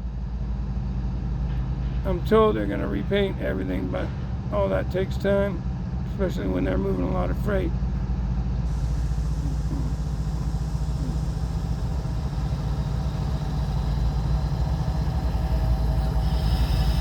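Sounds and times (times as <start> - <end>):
diesel engine throbbing: 0.0 - 17.0
freight train rumbling past: 0.0 - 17.0.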